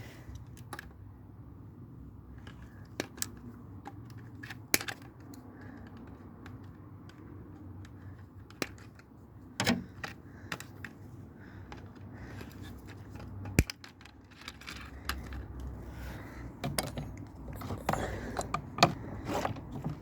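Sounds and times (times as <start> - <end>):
plastic and metal parts clicking: 2.4 - 20.0.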